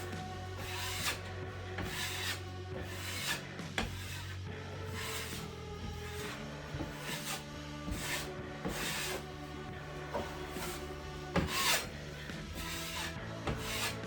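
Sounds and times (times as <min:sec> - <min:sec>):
background music: 0:00.0 - 0:14.0
drywall knife scraping wall: 0:00.0 - 0:14.0.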